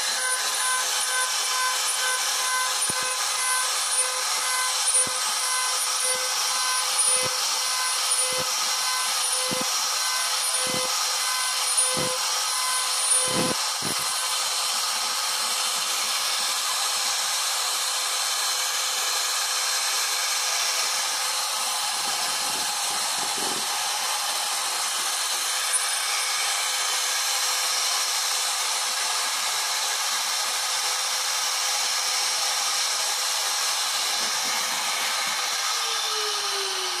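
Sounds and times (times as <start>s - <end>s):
hiss of cutting wood: 0.0s - 37.0s
router spindle whine: 0.0s - 37.0s.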